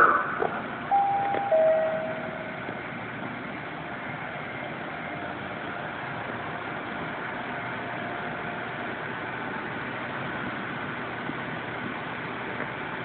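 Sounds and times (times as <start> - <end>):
diesel railway engine running: 0.0 - 13.0.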